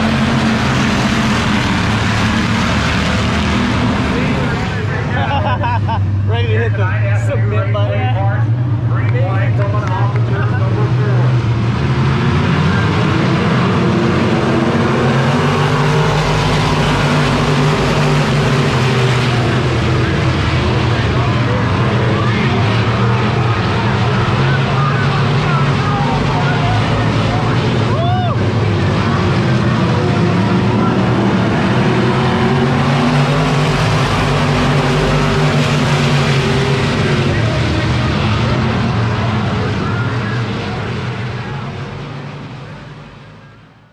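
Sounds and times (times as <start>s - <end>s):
many race car engines: 0.0s - 43.9s.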